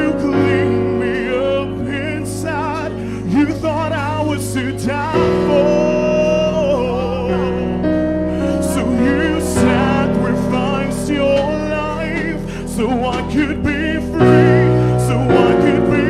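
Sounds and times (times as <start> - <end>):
keyboard sustained chords: 0.0 - 16.0
vocalists singing runs: 0.0 - 16.0.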